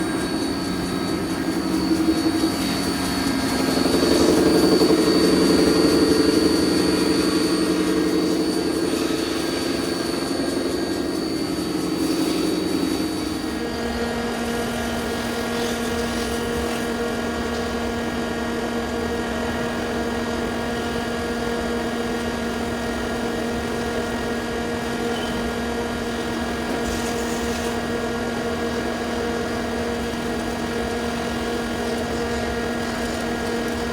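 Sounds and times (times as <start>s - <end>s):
lathe spindle drive whine: 0.0s - 33.9s.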